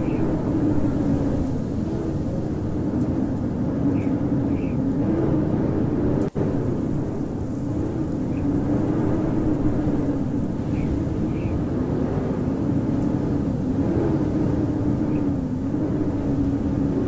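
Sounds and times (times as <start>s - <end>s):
howling blizzard wind: 0.0s - 17.0s.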